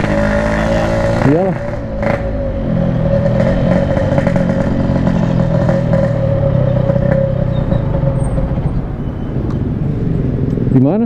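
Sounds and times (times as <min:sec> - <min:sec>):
steady higher tone: 0:00.0 - 0:10.5.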